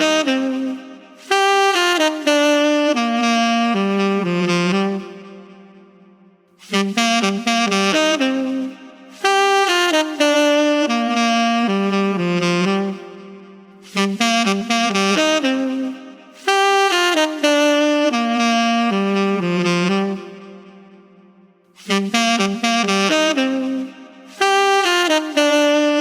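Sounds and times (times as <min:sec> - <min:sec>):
solo saxophone melody: 0:00.0 - 0:26.0.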